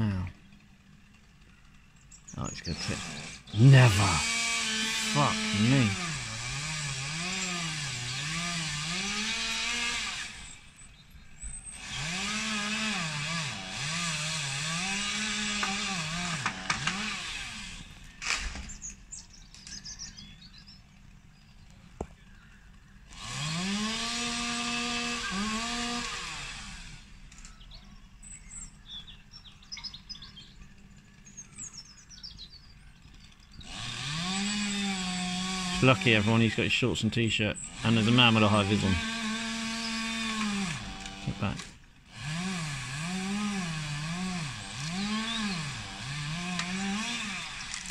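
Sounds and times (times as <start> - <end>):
chainsaw revving: 0.0 - 47.9.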